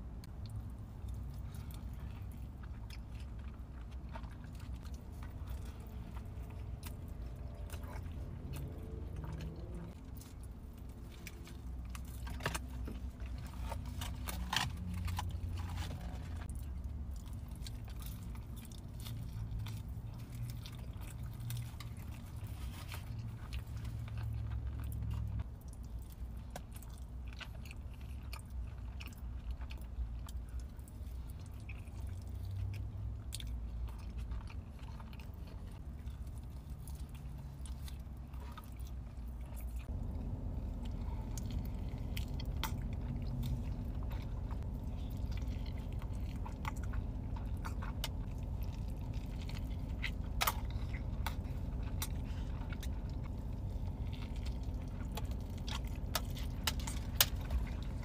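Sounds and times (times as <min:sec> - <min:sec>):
low steady hum: 0:00.0 - 0:58.0
person chewing food: 0:00.1 - 0:58.0.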